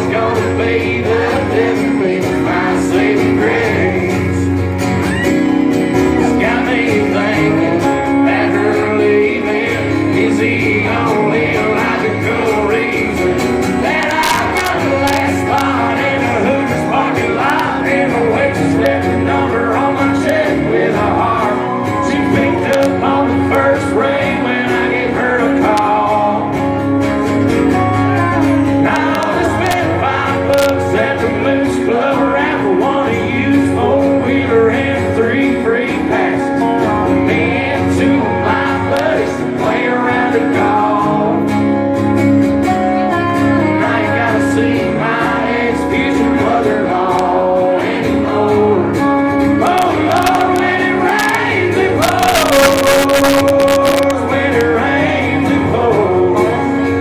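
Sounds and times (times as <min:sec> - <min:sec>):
live country band with guitars: 0:00.0 - 0:57.0
person singing: 0:06.0 - 0:26.9, 0:27.8 - 0:41.7, 0:42.8 - 0:57.0.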